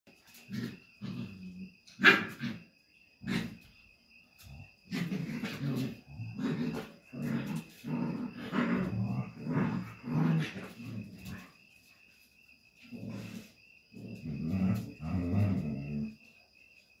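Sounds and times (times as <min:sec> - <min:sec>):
dogs growling: 0:00.3 - 0:02.6, 0:03.2 - 0:03.7, 0:04.4 - 0:11.6, 0:12.8 - 0:16.4.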